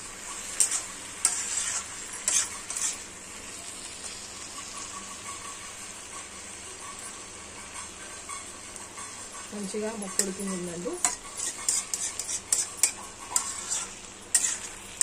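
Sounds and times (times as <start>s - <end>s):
sizzle of frying oil: 0.0s - 15.0s
spatula scraping pan: 0.2s - 3.1s, 4.0s - 15.0s.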